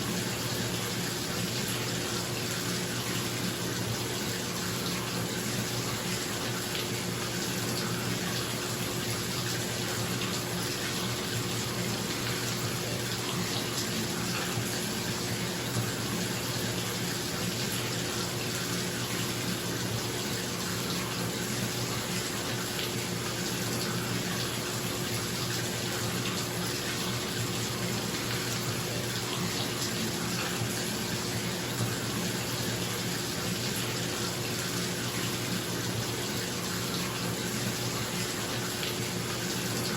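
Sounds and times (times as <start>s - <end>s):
tap water running into tub: 0.0s - 39.9s.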